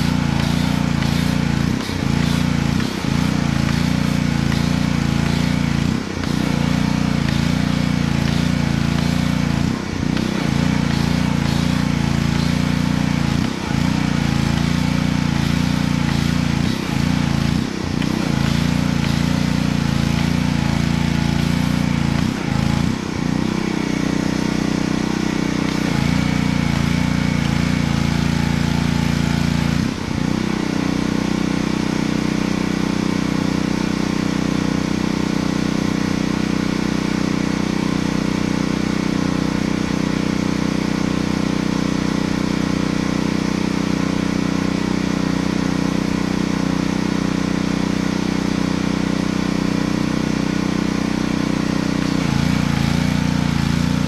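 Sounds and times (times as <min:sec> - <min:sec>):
pressure washer engine running: 0:00.0 - 0:54.0.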